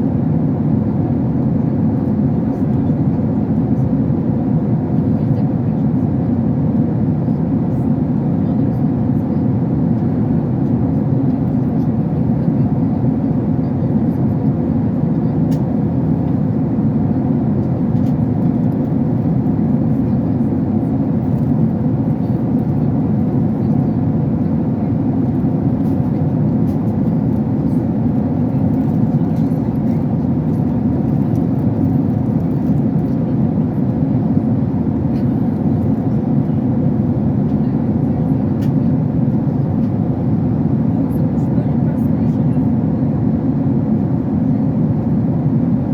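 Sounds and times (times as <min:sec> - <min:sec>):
jet airliner cabin drone: 0:00.0 - 0:45.9.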